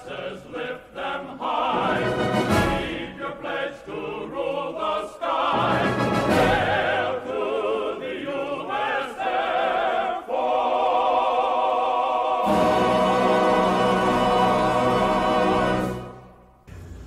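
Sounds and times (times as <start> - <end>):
choir singing with accompaniment: 0.0 - 16.6.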